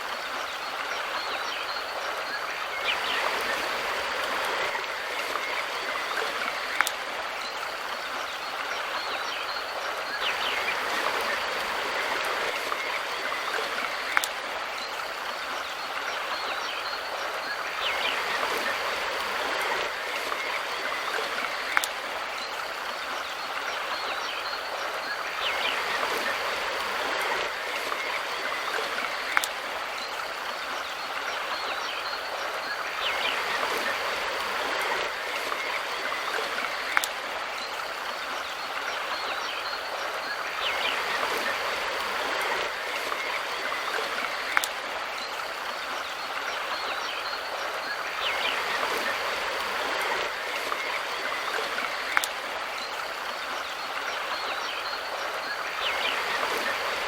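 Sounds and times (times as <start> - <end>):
river water rushing over rocks: 0.0 - 57.0.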